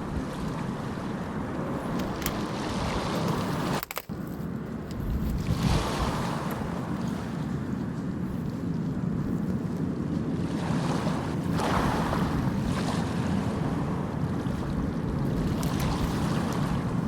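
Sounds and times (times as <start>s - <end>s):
sea waves washing on shore: 0.0s - 17.0s
wind rumbling on microphone: 0.0s - 17.0s.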